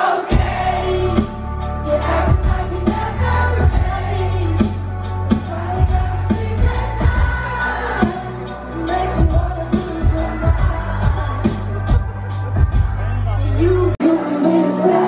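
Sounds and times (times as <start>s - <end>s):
live pop band: 0.0s - 15.0s.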